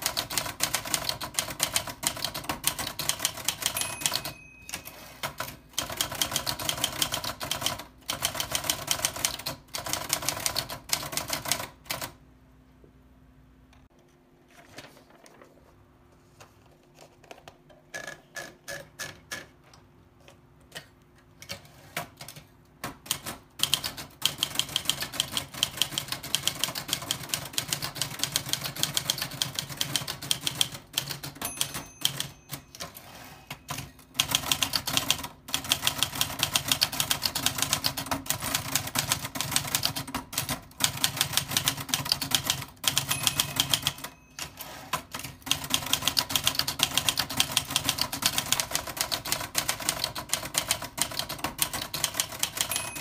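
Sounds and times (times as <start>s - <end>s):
typewriter keys clacking: 0.0s - 12.1s, 20.8s - 53.0s.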